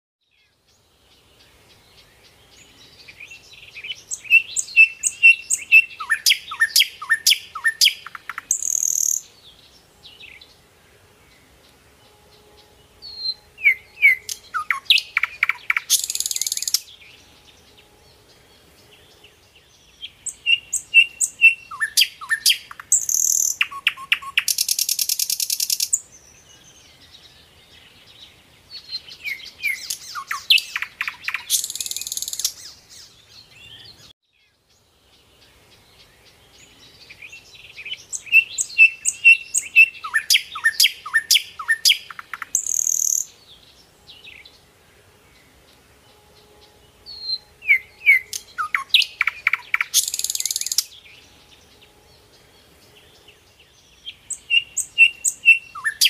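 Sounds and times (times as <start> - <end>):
songbird chirping with buzzy rattle: 0.7 - 10.6, 11.4 - 34.1, 35.2 - 44.6, 45.3 - 56.0.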